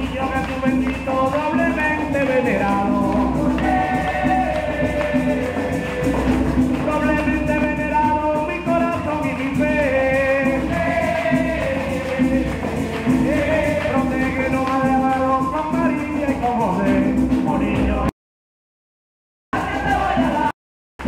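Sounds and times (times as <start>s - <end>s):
rhythmic percussion: 0.0s - 18.1s, 19.6s - 20.5s
voices singing: 0.0s - 18.1s, 19.6s - 20.6s.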